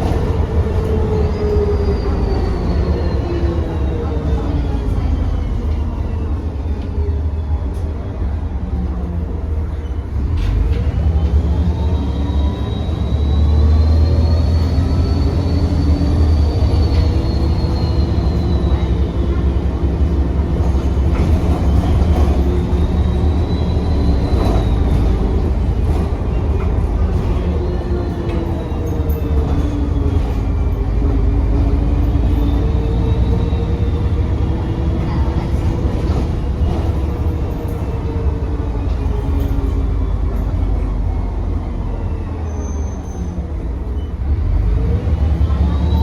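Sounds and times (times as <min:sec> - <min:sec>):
bus diesel engine pulling hard: 0:00.0 - 0:46.0.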